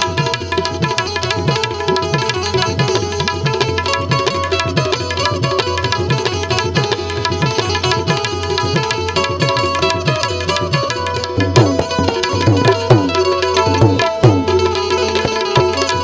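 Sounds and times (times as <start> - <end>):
tabla playing a rhythm: 0.0 - 16.0.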